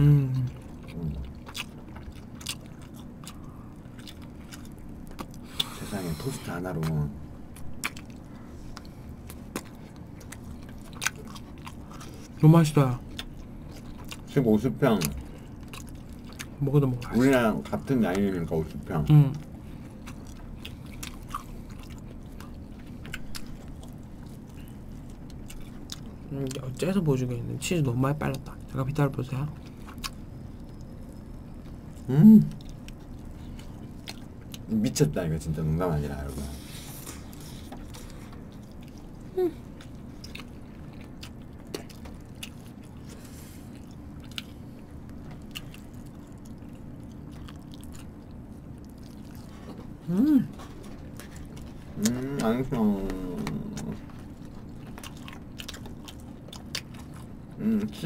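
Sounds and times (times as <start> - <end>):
low steady hum: 0.0 - 58.0
person chewing toast: 0.2 - 26.8, 29.6 - 34.8, 36.0 - 58.0.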